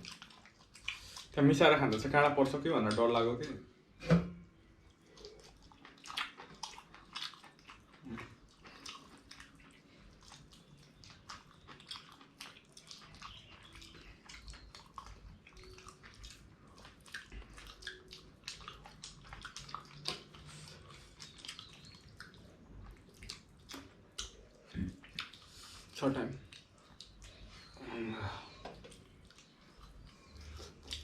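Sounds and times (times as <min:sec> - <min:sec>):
wet chewing and mouth smacks: 0:00.0 - 0:03.6, 0:04.7 - 0:27.8, 0:28.6 - 0:31.0.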